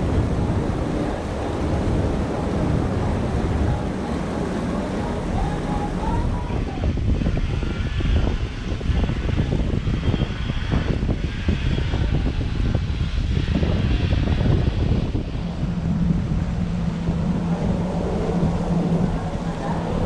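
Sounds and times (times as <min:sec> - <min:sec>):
boat engine low rumble: 0:00.0 - 0:20.0
water washing along hull: 0:00.0 - 0:20.0
wind buffeting microphone: 0:00.0 - 0:20.0.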